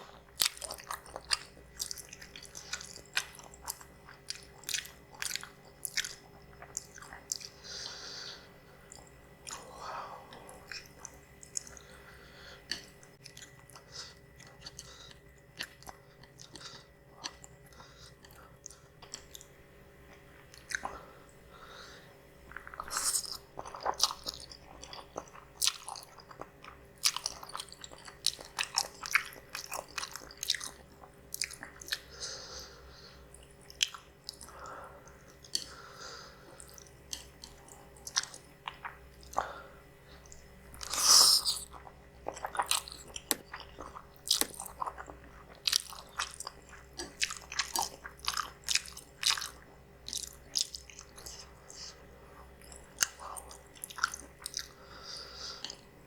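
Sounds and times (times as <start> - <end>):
chewing noodles: 0.1 - 8.1, 8.8 - 19.5, 22.4 - 55.9.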